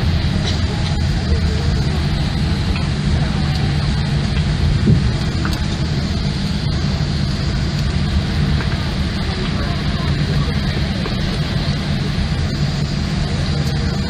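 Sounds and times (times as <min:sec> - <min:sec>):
low rumble of engines and wheels: 0:00.0 - 0:14.0.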